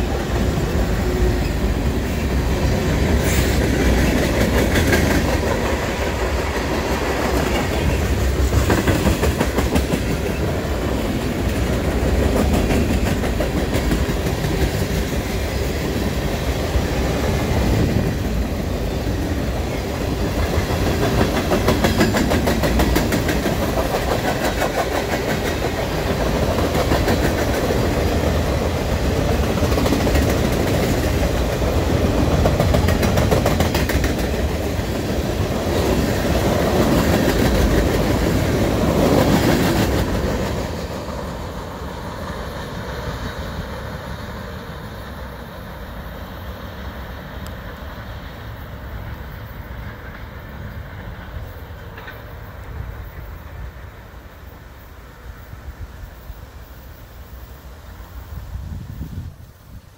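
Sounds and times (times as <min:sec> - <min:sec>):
clickety-clack over rail joints: 0:00.0 - 0:44.1, 0:48.9 - 0:54.0
freight train wheels rumbling: 0:00.0 - 0:59.9.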